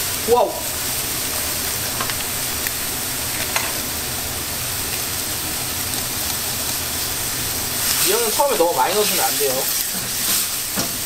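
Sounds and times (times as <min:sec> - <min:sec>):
wok sizzling on gas burner: 0:00.0 - 0:11.0.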